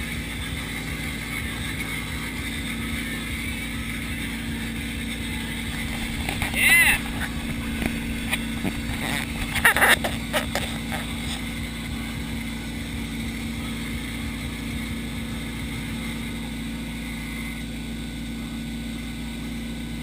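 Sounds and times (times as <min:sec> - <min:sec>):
motorboat engine running: 0:00.0 - 0:20.0.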